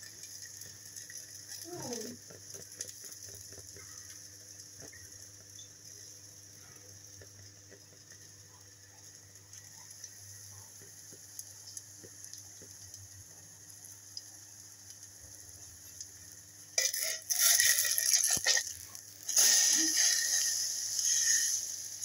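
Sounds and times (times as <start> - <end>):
bread sizzling in a wok: 0.0 - 22.0.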